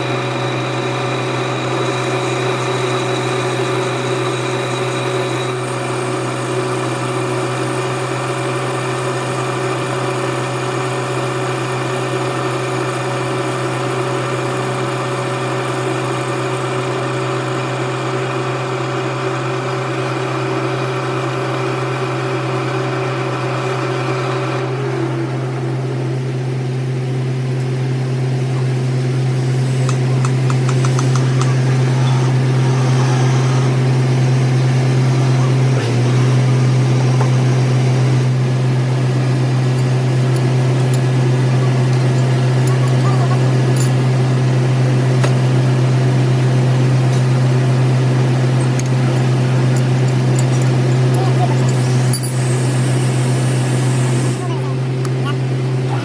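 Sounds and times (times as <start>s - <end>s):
metal lathe humming: 0.0s - 56.0s.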